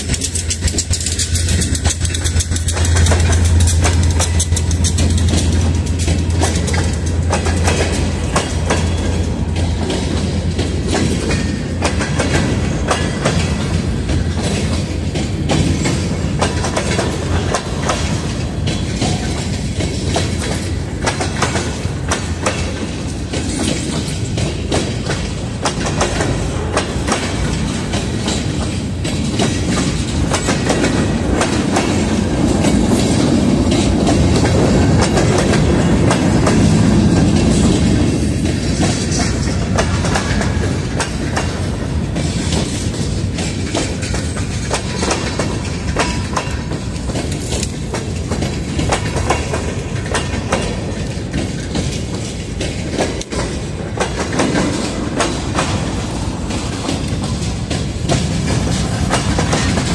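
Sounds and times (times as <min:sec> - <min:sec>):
train rumble: 0:00.0 - 0:59.9
wheels clacking over rail joints: 0:00.0 - 0:59.9.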